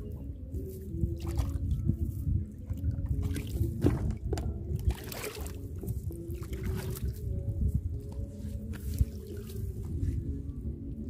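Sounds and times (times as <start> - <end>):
water trickling and splashing: 0.0 - 10.0.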